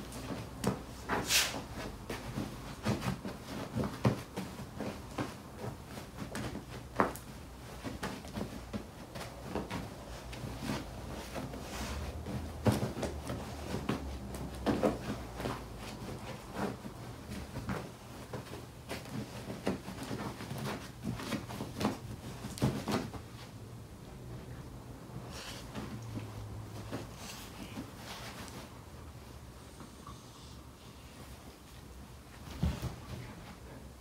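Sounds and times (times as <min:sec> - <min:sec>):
paws thumping on cushion: 0:00.0 - 0:29.9, 0:31.2 - 0:34.0.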